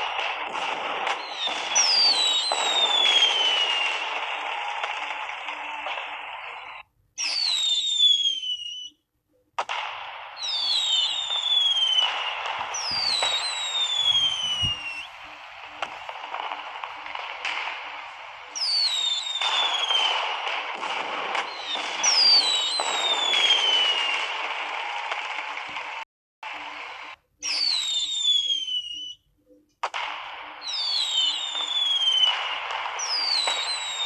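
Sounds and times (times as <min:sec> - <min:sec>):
sharp firework cracks: 0:00.0 - 0:08.8, 0:09.6 - 0:28.8, 0:29.8 - 0:34.0
fireworks crackling: 0:00.0 - 0:08.9, 0:09.6 - 0:29.2, 0:29.8 - 0:34.0
falling firework whistles: 0:00.0 - 0:09.0, 0:09.7 - 0:26.0, 0:26.6 - 0:29.3, 0:29.9 - 0:34.0.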